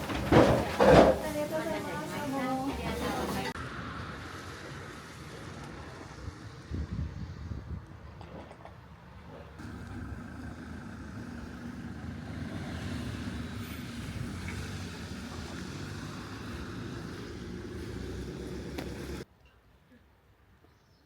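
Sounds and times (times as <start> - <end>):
car engine and road noise: 0.0 - 19.3.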